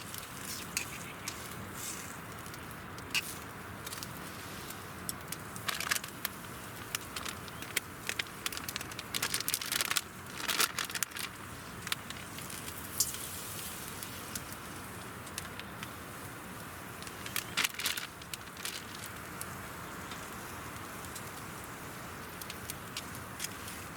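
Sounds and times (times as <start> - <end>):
campfire crackling and popping: 0.0 - 23.9.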